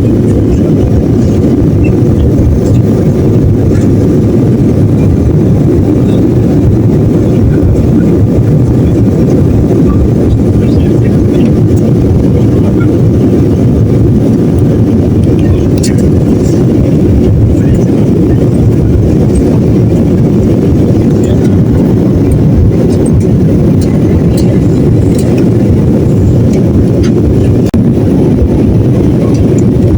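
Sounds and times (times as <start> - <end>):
airliner cabin engine rumble: 0.0 - 29.9.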